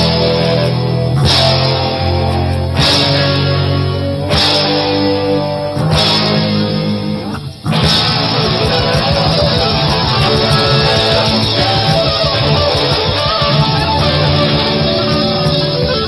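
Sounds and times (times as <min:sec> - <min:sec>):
bass guitar: 0:00.0 - 0:16.0
drums: 0:00.0 - 0:16.0
electric guitars strumming: 0:00.0 - 0:16.0.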